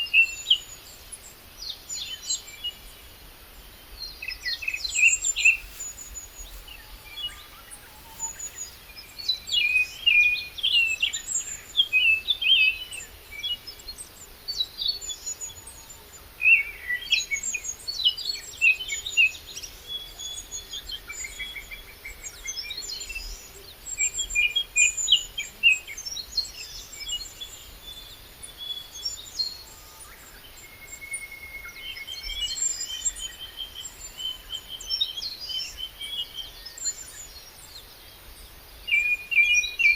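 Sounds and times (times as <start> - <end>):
small birds chirping and trilling: 0.0 - 16.4, 17.0 - 39.9.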